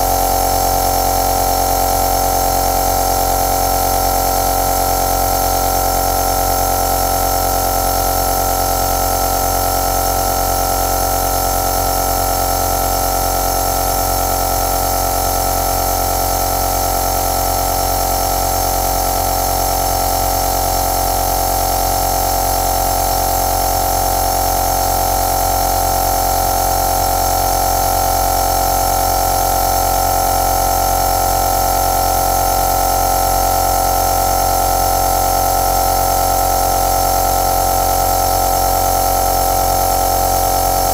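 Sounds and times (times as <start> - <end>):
nebulizer motor hum: 0.0 - 40.9.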